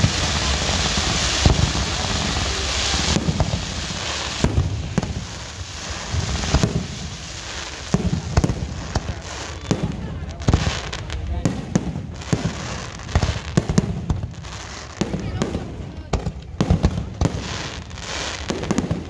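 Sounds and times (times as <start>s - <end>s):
firework shells bursting bangs: 0.0s - 19.0s
fireworks hissing crackle: 0.0s - 19.0s.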